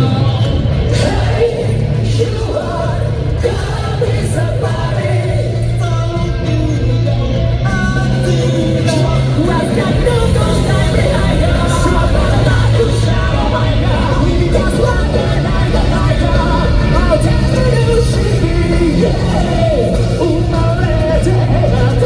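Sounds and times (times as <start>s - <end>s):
live rock band: 0.0s - 22.0s
person singing lead vocals: 0.0s - 22.0s.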